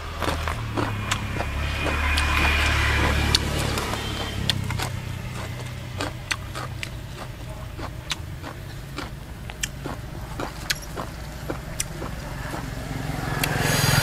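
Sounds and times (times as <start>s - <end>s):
chewing raw vegetables: 0.0s - 13.6s
steady low hum: 0.0s - 14.0s.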